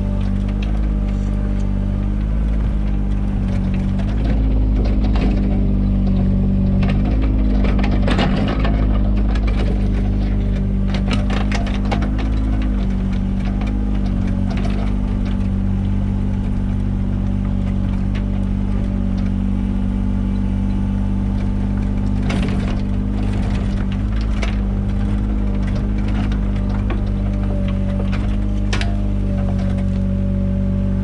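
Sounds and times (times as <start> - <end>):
excavator engine running: 0.0 - 31.0
knocks and scrapes: 0.0 - 31.0.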